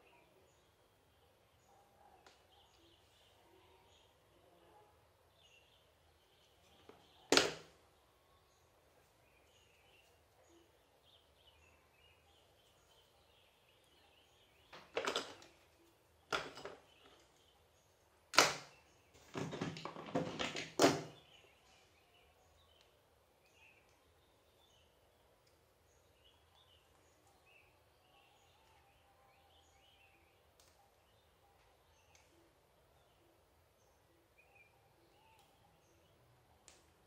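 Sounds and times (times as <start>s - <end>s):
faint bird chirps: 0.0s - 19.3s, 21.1s - 37.0s.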